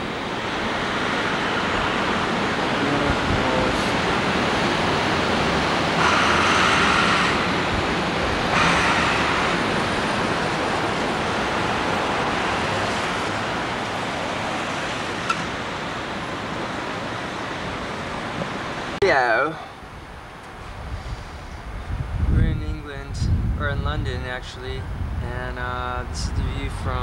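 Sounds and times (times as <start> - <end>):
vehicles rushing past: 0.0 - 22.4
city traffic roar: 0.0 - 27.0.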